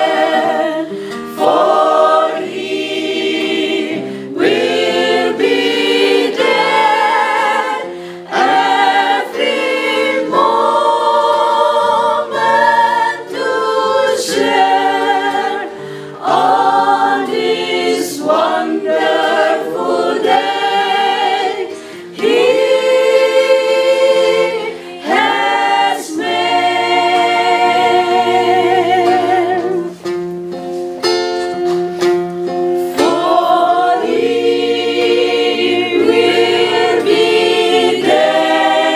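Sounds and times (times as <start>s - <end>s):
church choir singing: 0.0s - 30.1s, 32.7s - 38.9s
acoustic guitar: 0.0s - 38.9s.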